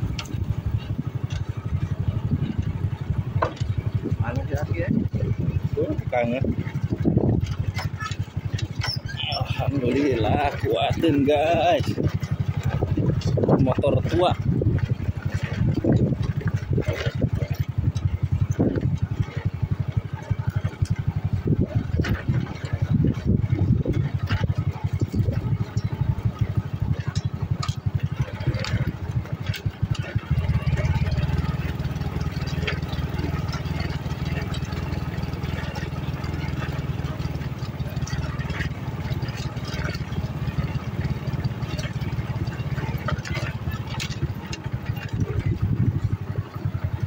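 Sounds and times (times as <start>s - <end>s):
motorcycle engine running: 0.0s - 47.0s
motorcycle knocking and rattling: 0.0s - 47.0s.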